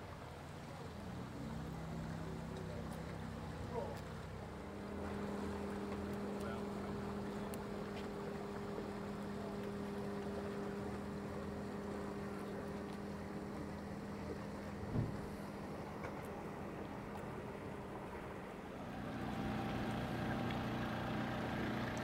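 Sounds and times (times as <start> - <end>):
motor boat engine running: 0.0 - 22.0.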